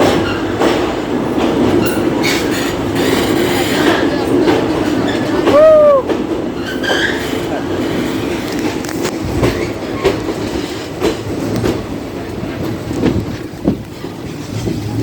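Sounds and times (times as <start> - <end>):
train rumbling: 0.0 - 15.0
train wheels clacking over rail joints: 0.0 - 15.0.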